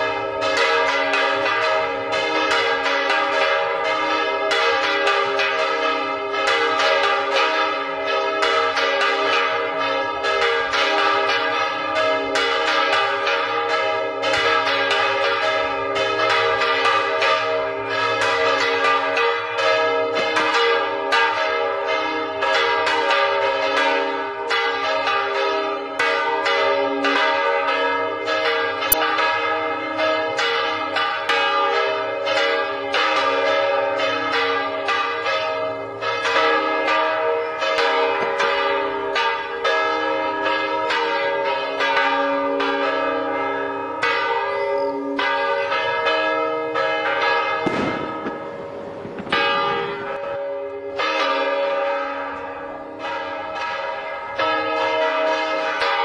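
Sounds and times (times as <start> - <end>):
church bells ringing a peal: 0.0 - 56.0.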